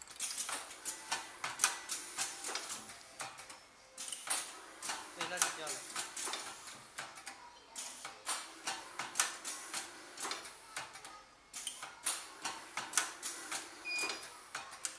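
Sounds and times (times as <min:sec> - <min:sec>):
printing machine clicking and clacking: 0:00.0 - 0:14.9.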